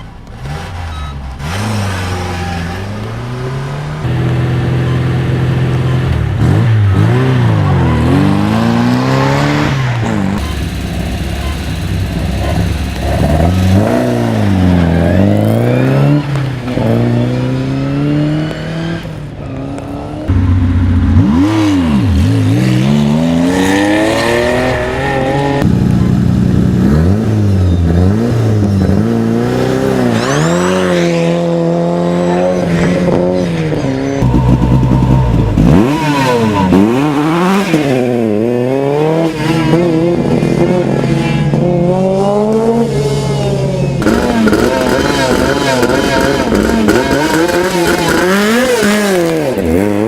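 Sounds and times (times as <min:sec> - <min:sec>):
rally car engines revving: 0:00.0 - 0:50.0.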